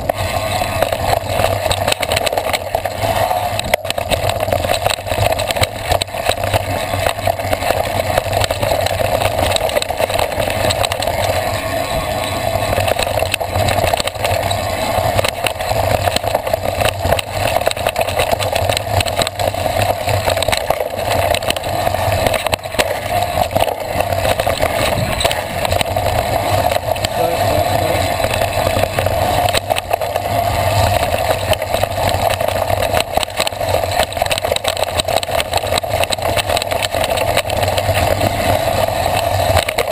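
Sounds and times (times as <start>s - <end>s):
bike rattling over rocks: 0.0s - 39.9s
bike rolling on dirt trail: 0.0s - 39.9s.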